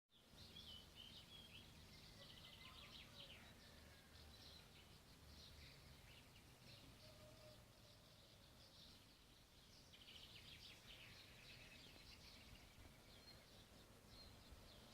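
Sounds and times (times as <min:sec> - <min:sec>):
faint birdsong chirping and trilling: 0:00.1 - 0:14.9.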